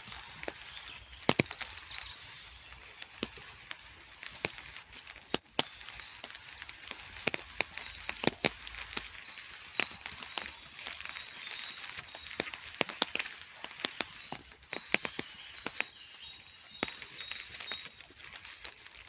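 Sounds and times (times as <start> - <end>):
light rain hiss: 0.0 - 19.0
raindrops tapping: 0.0 - 19.0.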